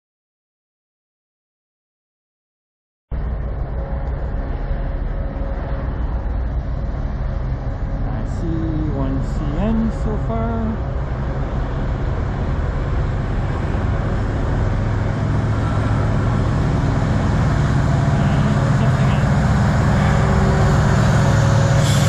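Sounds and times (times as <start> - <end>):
diesel locomotive engine drone: 3.1 - 22.0.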